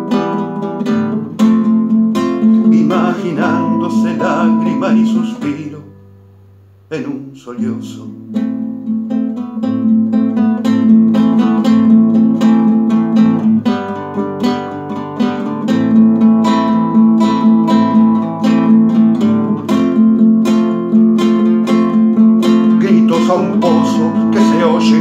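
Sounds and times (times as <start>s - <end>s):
classical guitar strummed and picked: 0.0s - 6.3s, 7.0s - 25.0s.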